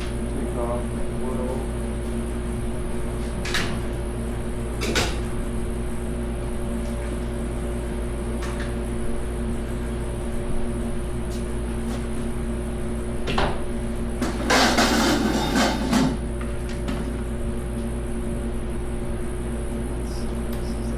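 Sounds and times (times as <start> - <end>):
steady mechanical hum: 0.0 - 20.9.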